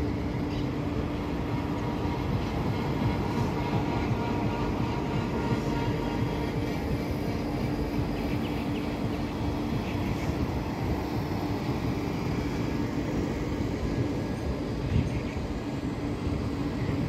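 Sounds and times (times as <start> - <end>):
constant low hum: 0.0 - 17.0
electric train rumbling: 0.0 - 17.0.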